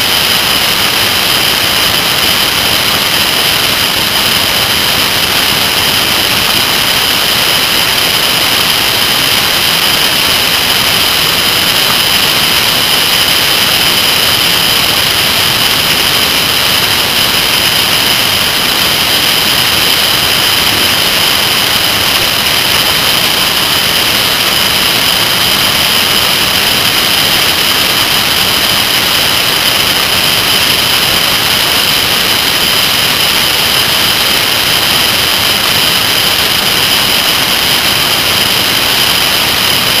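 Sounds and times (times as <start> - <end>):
constant high whine: 0.0 - 40.0.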